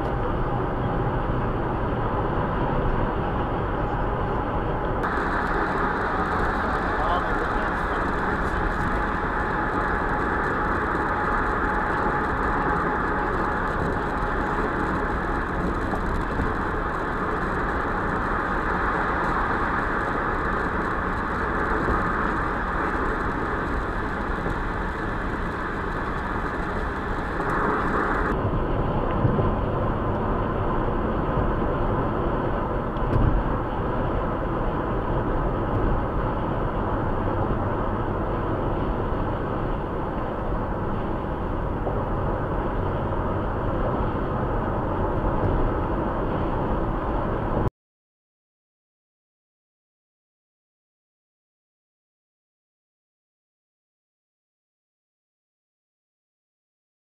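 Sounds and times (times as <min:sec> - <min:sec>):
deep rumble: 0:00.0 - 0:47.7
vehicle road noise: 0:00.0 - 0:47.7.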